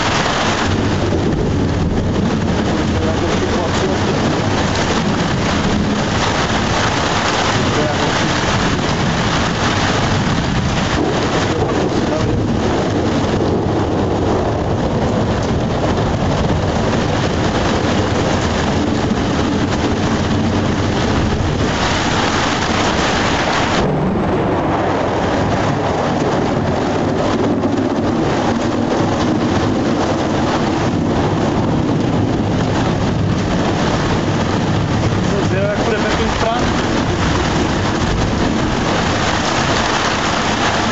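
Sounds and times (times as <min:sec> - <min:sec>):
heavy rain: 0:00.0 - 0:40.9
thunder rumbling: 0:00.0 - 0:40.9.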